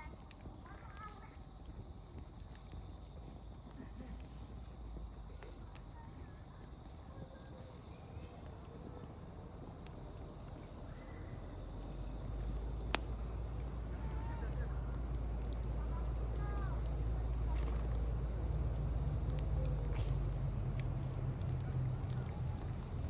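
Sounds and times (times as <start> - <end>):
firewood popping: 0.0 - 23.0
insects trilling: 0.0 - 23.0
wood fire crackling: 0.0 - 23.0.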